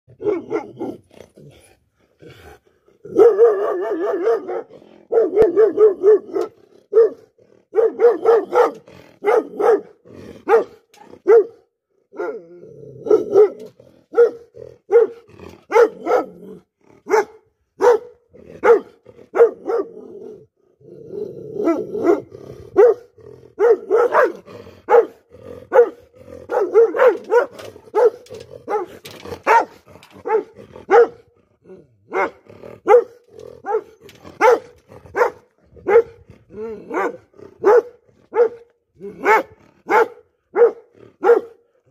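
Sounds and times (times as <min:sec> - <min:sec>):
large dog barking: 0:00.1 - 0:41.9.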